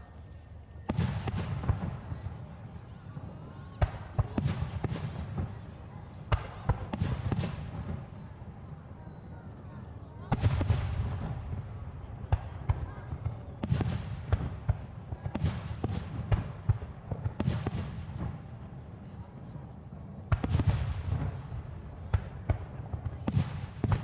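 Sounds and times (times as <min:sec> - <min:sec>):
fireworks bursting: 0:00.9 - 0:08.6, 0:10.3 - 0:18.7, 0:20.3 - 0:24.0.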